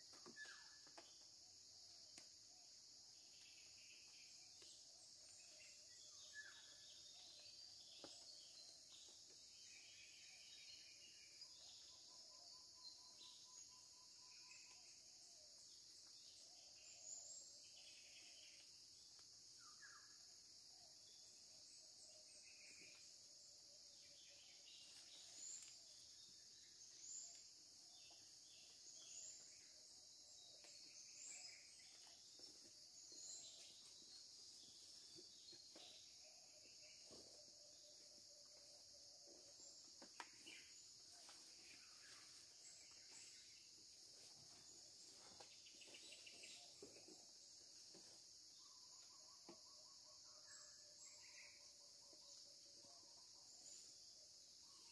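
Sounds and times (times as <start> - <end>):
faint insect drone: 0.0 - 54.9.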